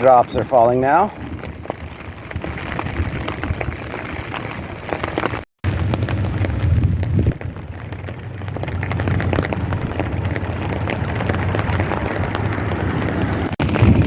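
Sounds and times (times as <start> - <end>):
rain hiss: 0.0 - 14.0
raindrops ticking on surfaces: 0.0 - 14.0
wind rumble on microphone: 0.0 - 14.0.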